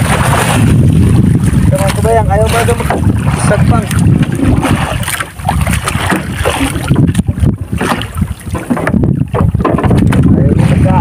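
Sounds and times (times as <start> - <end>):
water sloshing around boat: 0.0 - 11.0
wind rumbling on microphone: 0.0 - 11.0.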